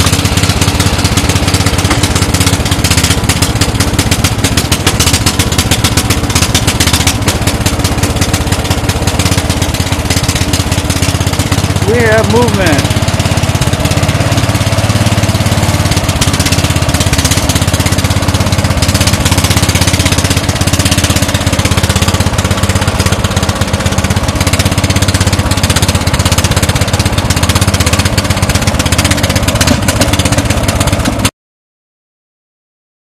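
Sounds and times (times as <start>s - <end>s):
small truck engine running: 0.0s - 31.3s.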